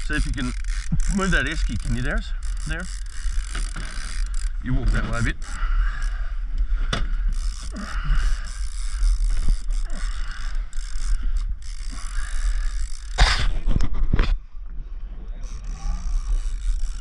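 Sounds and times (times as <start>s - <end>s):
fishing reel being wound: 0.0s - 13.6s, 15.4s - 17.0s.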